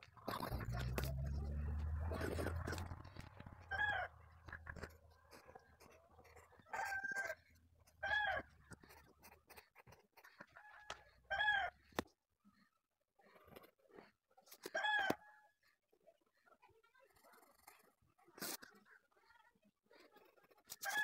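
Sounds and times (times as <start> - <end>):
pencil scratching on paper: 0.2 - 14.8, 16.9 - 21.0.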